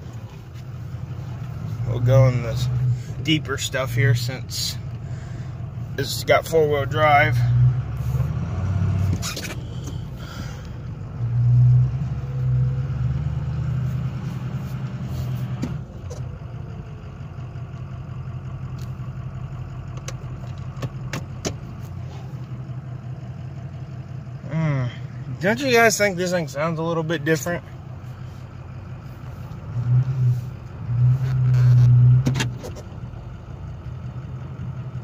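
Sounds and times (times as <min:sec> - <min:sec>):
pickup truck engine running: 0:00.0 - 0:35.0.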